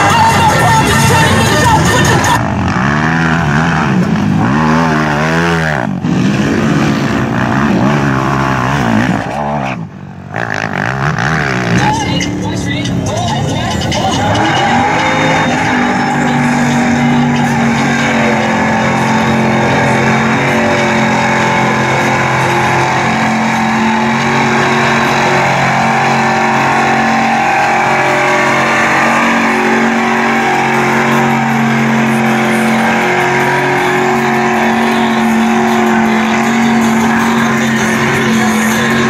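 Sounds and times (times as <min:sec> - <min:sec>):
pickup engine revving high: 0:00.0 - 0:39.0
tires churning through mud: 0:00.0 - 0:39.0.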